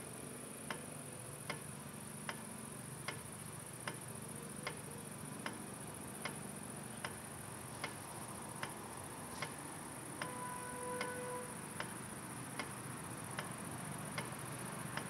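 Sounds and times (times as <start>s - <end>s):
insects hissing in grass: 0.0s - 15.0s.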